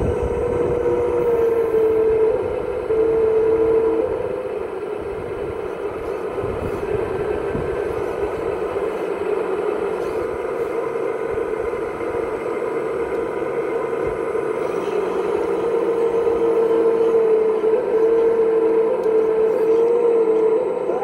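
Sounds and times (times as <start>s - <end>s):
hydraulic pump whine: 0.0s - 21.0s.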